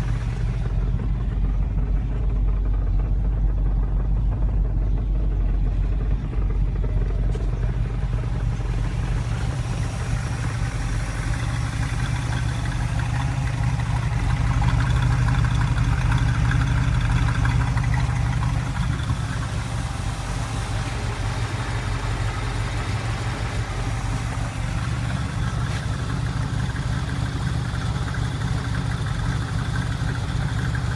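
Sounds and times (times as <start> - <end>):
engine deep rumble: 0.0 - 30.9.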